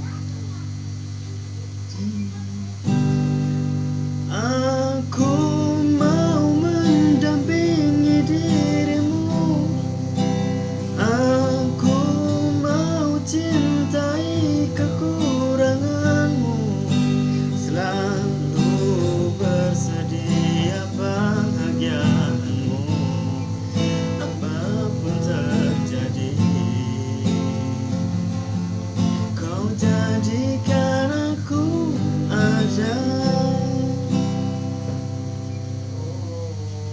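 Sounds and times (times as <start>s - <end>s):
guitar melody line: 0.0s - 36.2s
acoustic guitar strummed chords: 0.0s - 36.9s.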